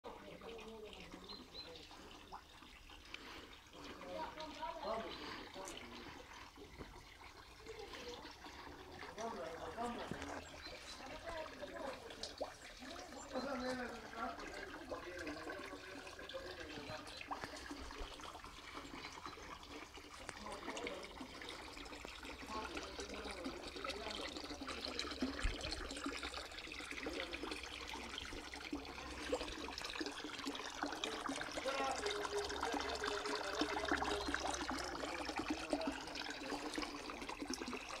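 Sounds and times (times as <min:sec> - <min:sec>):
water trickling into pond: 0:00.0 - 0:38.0.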